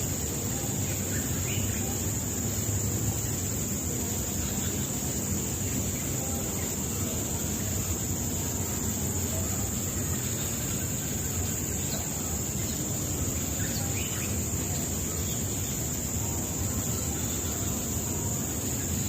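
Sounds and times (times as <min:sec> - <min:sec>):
high-pitched insect chirring: 0:00.0 - 0:19.0.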